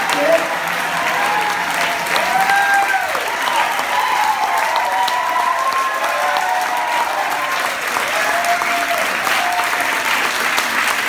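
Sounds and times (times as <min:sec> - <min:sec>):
audience applauding: 0:00.0 - 0:11.0
crowd cheering: 0:00.0 - 0:11.0.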